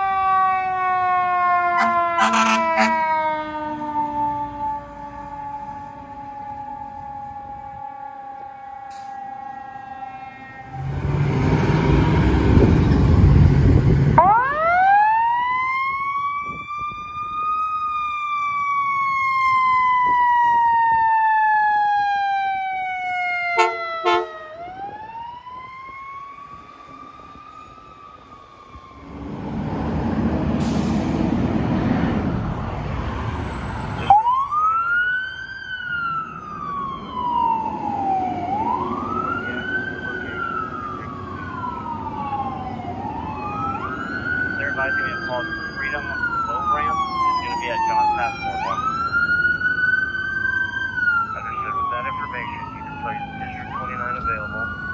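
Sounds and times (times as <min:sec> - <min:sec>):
passing truck rush: 0:00.0 - 0:21.3, 0:21.9 - 0:54.9
short siren blasts: 0:00.0 - 0:29.4, 0:32.3 - 0:54.9
fire truck siren wailing: 0:00.0 - 0:54.9.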